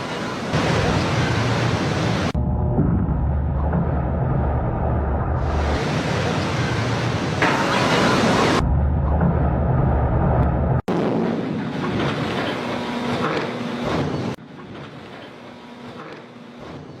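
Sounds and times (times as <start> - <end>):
low rumbling noise: 0.0 - 14.4.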